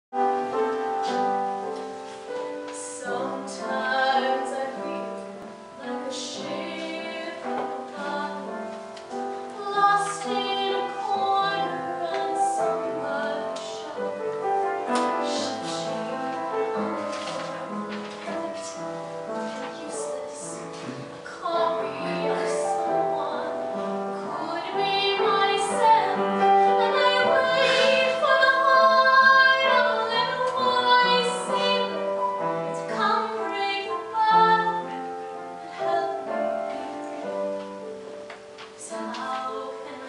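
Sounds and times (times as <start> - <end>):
piano accompaniment: 0.1 - 40.0
woman singing: 2.6 - 37.8, 38.7 - 40.0.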